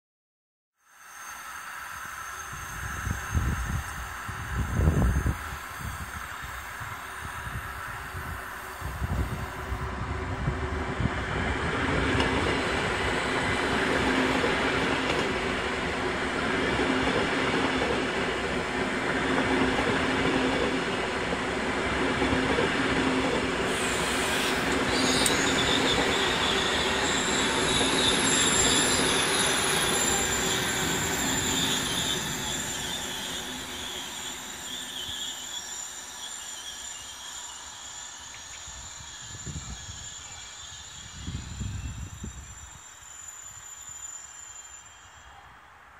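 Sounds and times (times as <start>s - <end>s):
train high whine: 0.8s - 45.9s
train rolling past: 0.9s - 45.9s.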